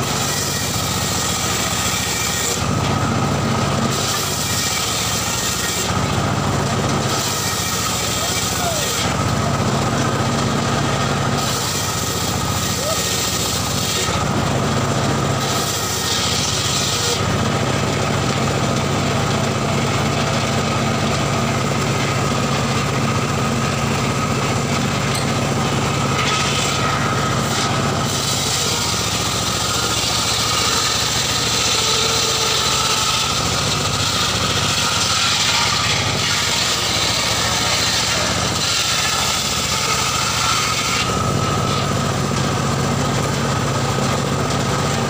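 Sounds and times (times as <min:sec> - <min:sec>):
saw bench engine running: 0:00.0 - 0:45.0.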